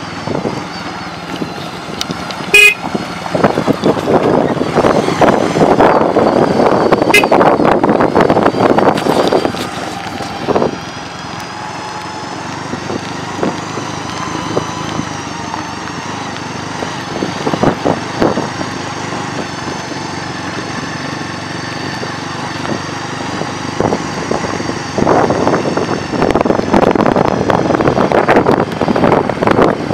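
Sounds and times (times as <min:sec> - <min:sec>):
motorcycle engine running: 0:00.0 - 0:29.9
wind buffeting microphone: 0:00.0 - 0:29.9.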